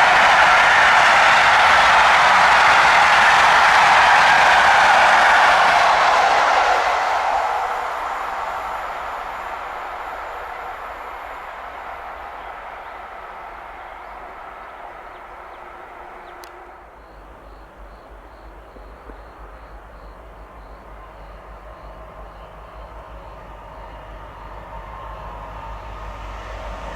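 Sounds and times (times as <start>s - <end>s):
passing train rail noise: 0.0s - 26.9s
steady background noise: 0.0s - 26.9s.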